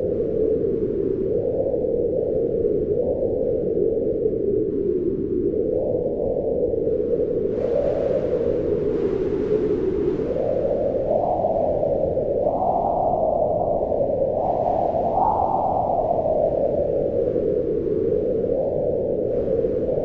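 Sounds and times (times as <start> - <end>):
howling wind: 0.0 - 20.0.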